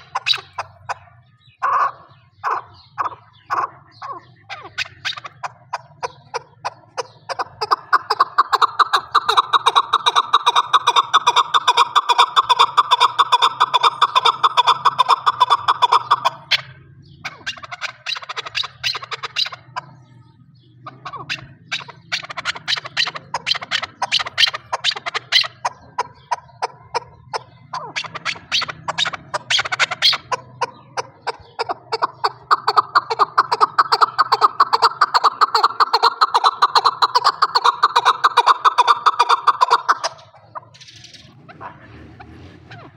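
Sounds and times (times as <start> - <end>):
partridge chuck calls: 0.0 - 42.9.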